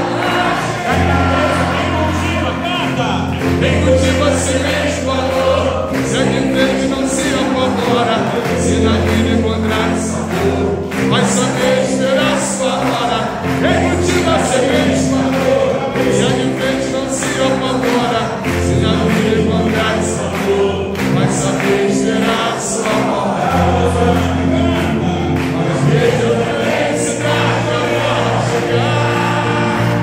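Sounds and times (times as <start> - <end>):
bass line held notes: 0.0 - 30.0
crowd clapping: 0.0 - 30.0
crowd singing along: 0.0 - 30.0.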